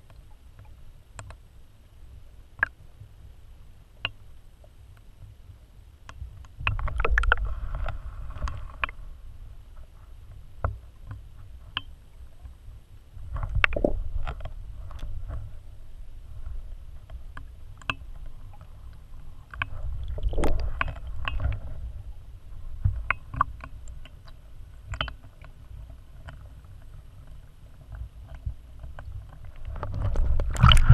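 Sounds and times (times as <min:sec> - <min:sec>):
underwater rumble of moving water: 0:00.0 - 0:30.9.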